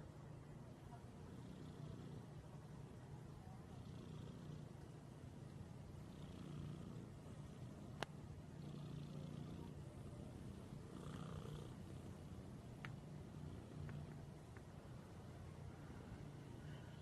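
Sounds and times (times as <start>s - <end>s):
cat purring: 1.0s - 17.0s.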